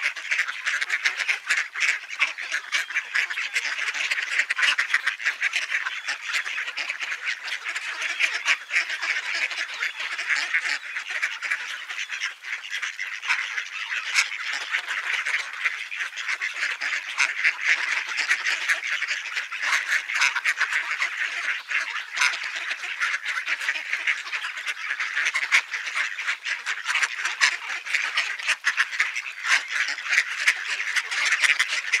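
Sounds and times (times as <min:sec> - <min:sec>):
ducks quacking: 0:00.0 - 0:32.0.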